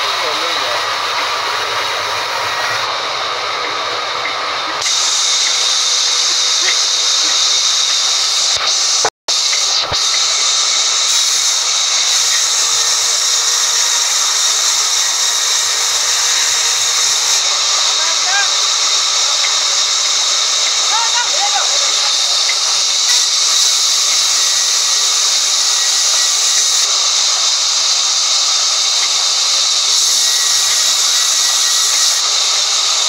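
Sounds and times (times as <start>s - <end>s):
band saw cutting log: 0.0s - 33.0s.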